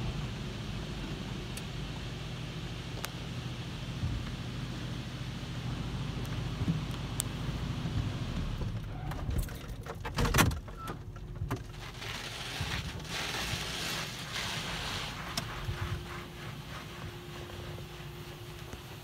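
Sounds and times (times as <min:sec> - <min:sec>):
water spray hissing on car: 0:00.0 - 0:08.5, 0:11.6 - 0:19.0.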